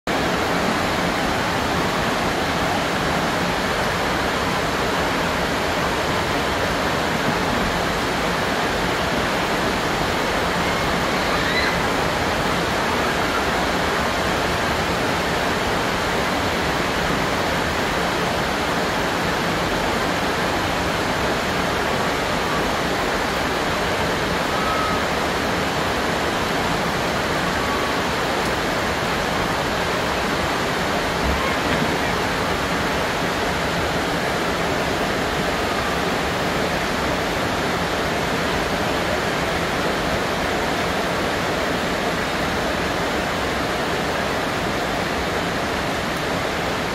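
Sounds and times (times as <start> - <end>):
steady rain falling: 0.1 - 46.9.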